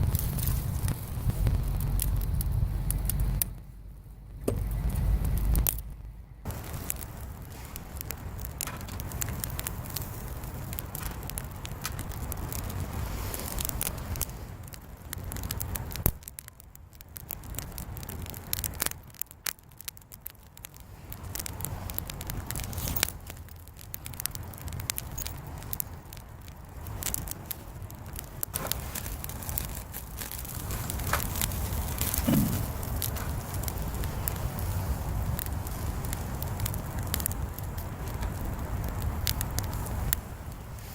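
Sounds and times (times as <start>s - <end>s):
bonfire crackling and popping: 0.0s - 40.9s
low fire rumble: 0.0s - 40.9s.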